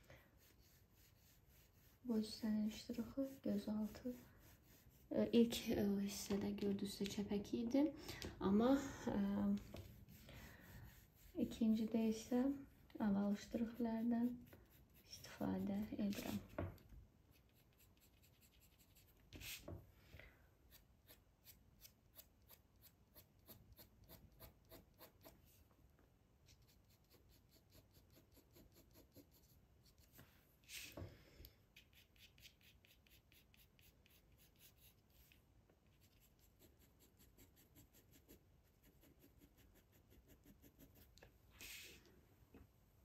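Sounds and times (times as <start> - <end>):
pencil scratching on paper: 0.4 - 6.4, 8.6 - 16.7, 17.3 - 19.8, 20.7 - 25.6, 26.4 - 30.9, 31.7 - 41.8.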